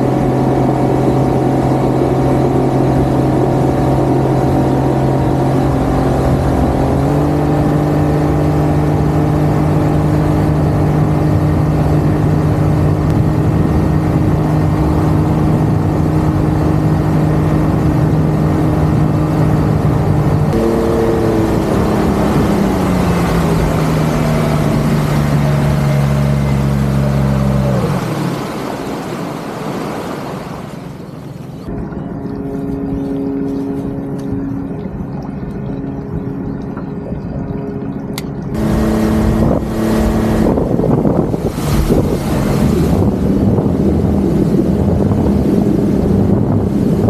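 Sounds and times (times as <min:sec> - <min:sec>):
outboard motor running: 0:00.0 - 0:47.0
wind and water rushing: 0:00.0 - 0:47.0.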